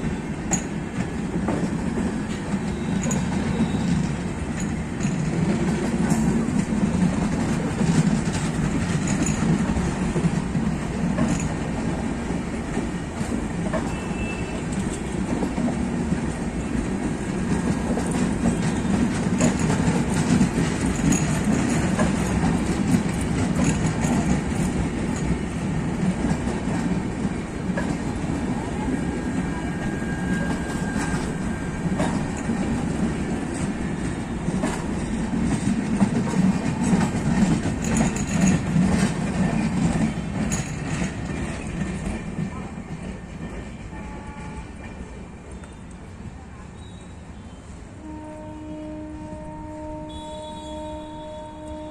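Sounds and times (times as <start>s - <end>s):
wheels clicking over rail joints: 0.0s - 46.1s
train wheels rumbling on rails: 0.0s - 51.9s.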